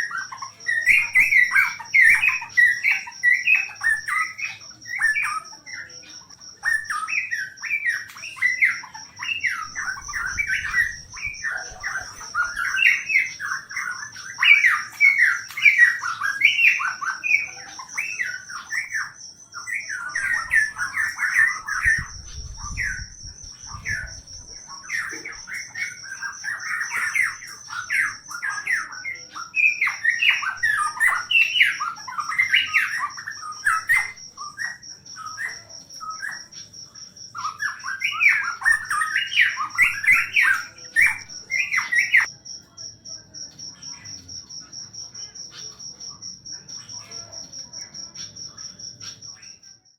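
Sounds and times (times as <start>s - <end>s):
songbird singing rapid notes: 0.0s - 42.3s
cricket trilling: 0.0s - 49.9s.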